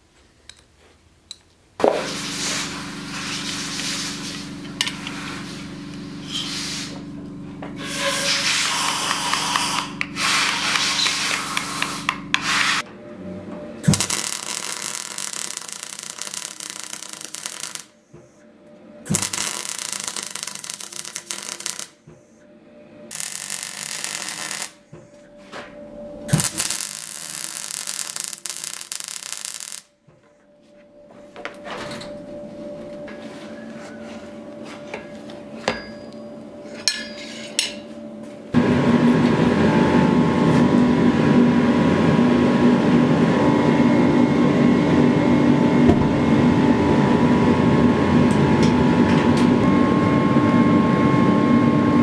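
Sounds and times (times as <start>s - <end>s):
loud machine humming: 2.0s - 29.6s, 37.6s - 52.0s.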